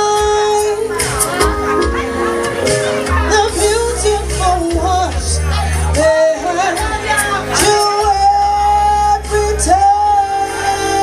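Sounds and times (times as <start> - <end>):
live band music: 0.0 - 11.0
steady bass line: 0.0 - 11.0.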